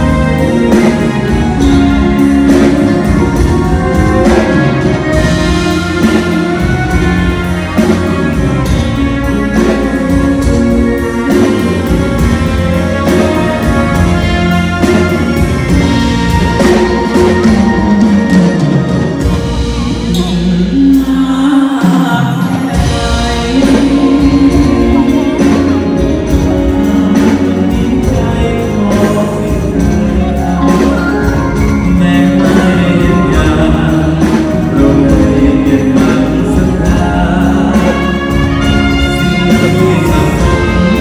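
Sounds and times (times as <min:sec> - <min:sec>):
drums: 0:00.0 - 0:41.0
live band music: 0:00.0 - 0:41.0
singer holding long notes: 0:00.0 - 0:41.0.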